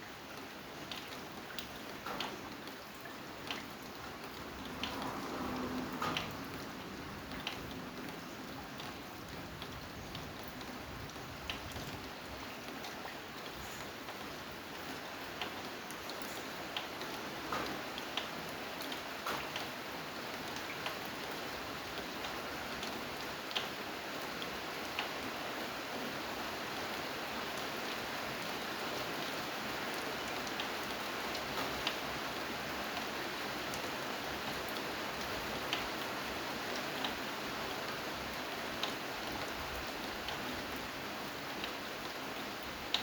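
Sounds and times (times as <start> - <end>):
steady rain hissing: 0.0 - 43.0.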